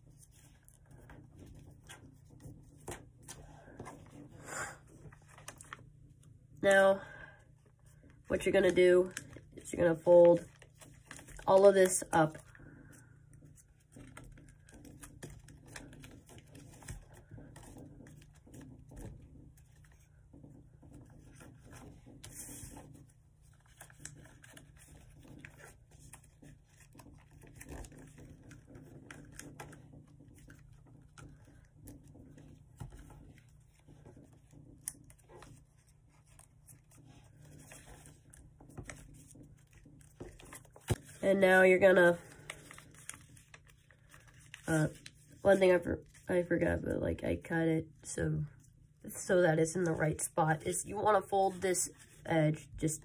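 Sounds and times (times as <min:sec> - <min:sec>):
paper rustling and creasing: 0:00.0 - 0:06.4, 0:07.6 - 0:46.3, 0:50.9 - 0:53.0.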